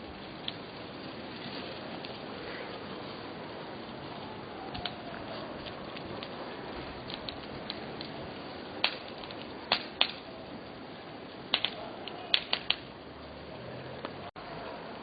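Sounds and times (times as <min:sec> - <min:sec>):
bonfire crackling: 0:00.0 - 0:15.0
fire popping: 0:00.0 - 0:15.0.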